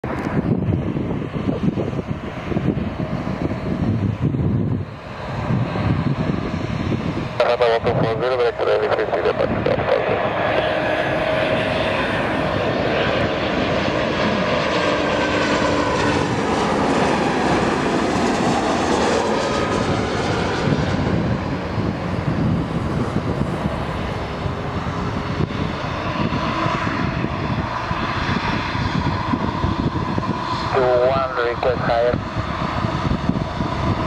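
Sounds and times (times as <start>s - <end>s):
jet engines roaring with whine: 0.0s - 34.0s.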